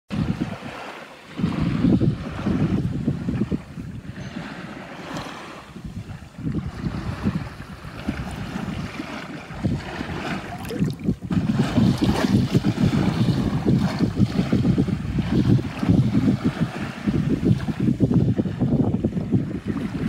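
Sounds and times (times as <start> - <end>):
small waves washing: 0.1 - 20.0
wind buffeting microphone: 0.1 - 20.0.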